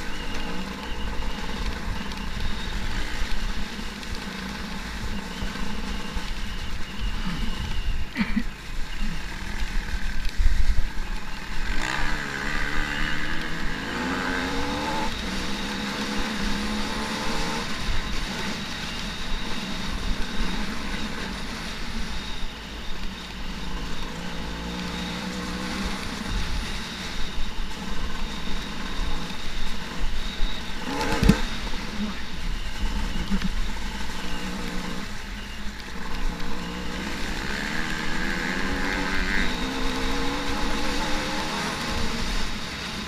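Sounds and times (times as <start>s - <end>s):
dirt bike engine revving: 0.0s - 43.0s
steady rushing noise: 0.0s - 43.0s.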